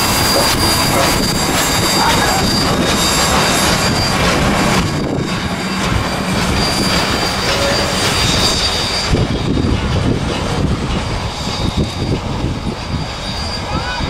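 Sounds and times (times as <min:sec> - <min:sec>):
steel wheels rumbling on rail: 0:00.0 - 0:14.0
wheels squealing on curve: 0:00.0 - 0:14.0.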